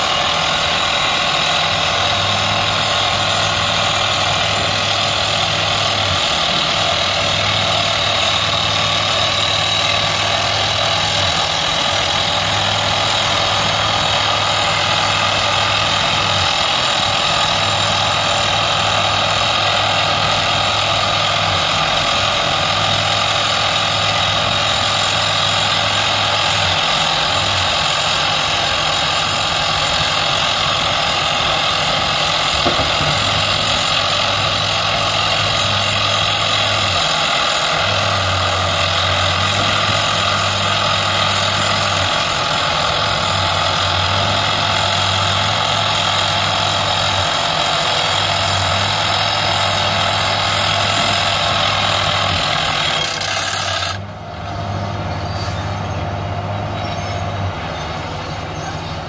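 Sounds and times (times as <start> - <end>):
rock drill boring into rock: 0.0 - 54.1.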